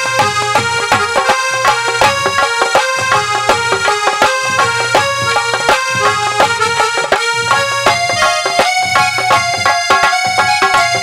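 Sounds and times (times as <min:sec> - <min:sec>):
dholak drum strokes: 0:00.0 - 0:11.0
keyed melody instrument: 0:00.0 - 0:11.0.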